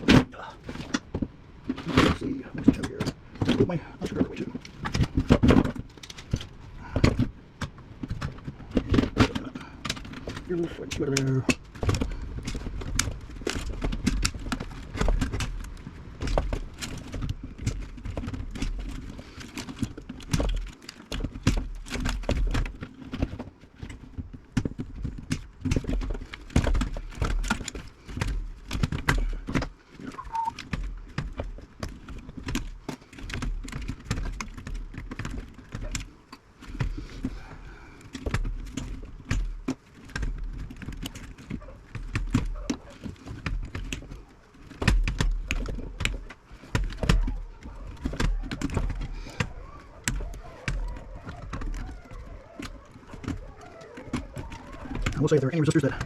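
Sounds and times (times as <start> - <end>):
hand tools clicking and rattling: 0.0 - 56.0.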